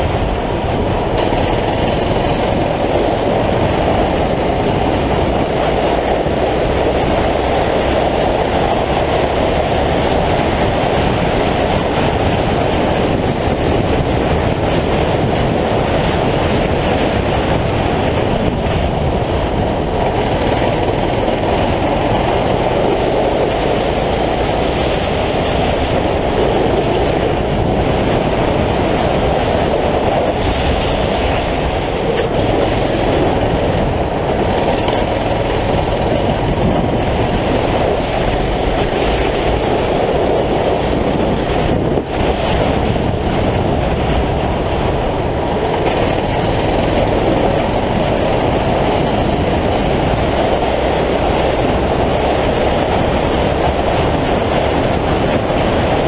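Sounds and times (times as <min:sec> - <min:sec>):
kart engine running hard: 0:00.0 - 0:56.0
wind noise: 0:00.0 - 0:56.0.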